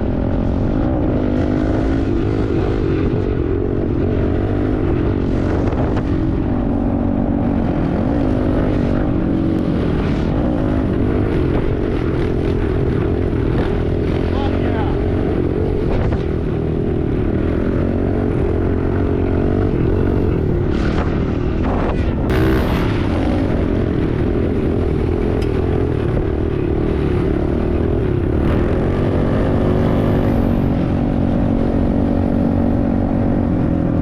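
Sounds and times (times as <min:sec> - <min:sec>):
small motorbike engine running: 0:00.0 - 0:34.0.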